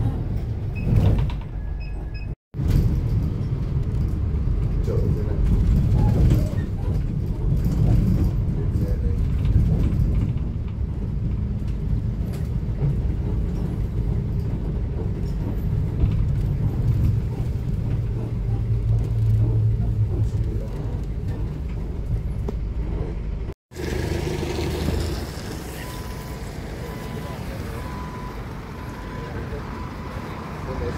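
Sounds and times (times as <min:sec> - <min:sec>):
bus diesel engine rumbling: 0:00.0 - 0:30.9.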